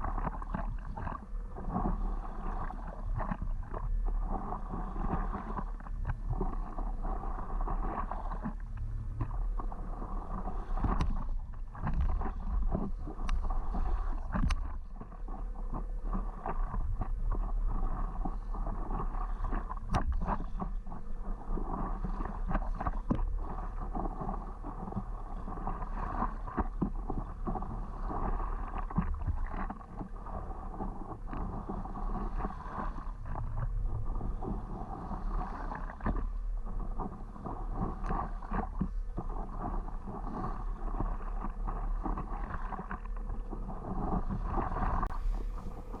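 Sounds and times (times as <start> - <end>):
paddle strokes splashing water: 0.0 - 46.0
wind rumble on microphone: 0.0 - 46.0.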